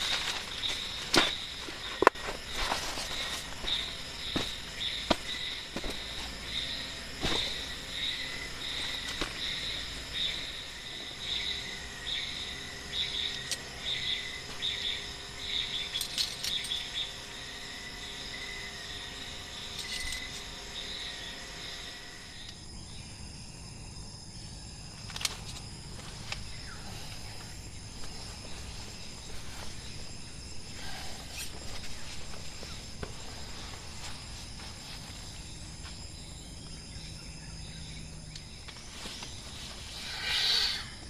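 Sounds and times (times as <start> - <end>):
night insects chirping: 0.0 - 41.0.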